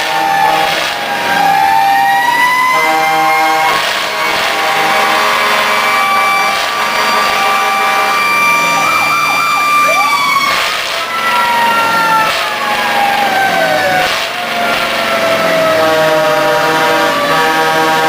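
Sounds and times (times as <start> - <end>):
fire truck sirens wailing: 0.0 - 18.0.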